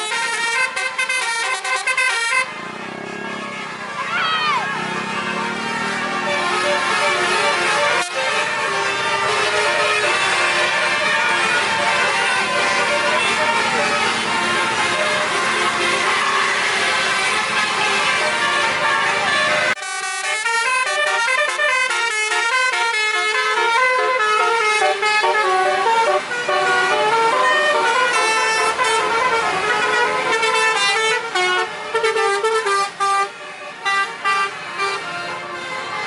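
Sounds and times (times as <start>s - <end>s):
multi-tone bus horn melody: 0.0s - 36.0s.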